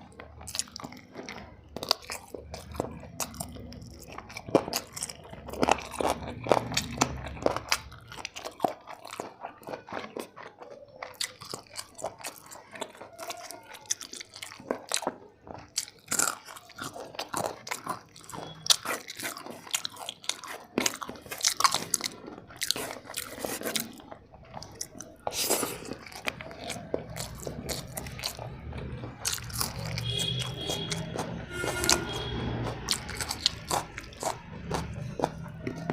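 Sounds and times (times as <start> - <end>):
person biting and chewing: 0.0 - 35.9.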